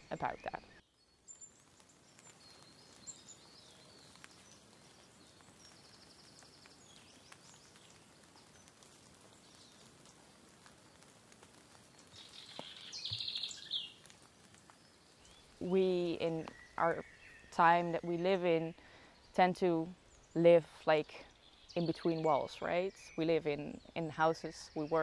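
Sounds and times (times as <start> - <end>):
birds singing: 0.0 - 25.0
soft steady hiss: 0.0 - 25.0.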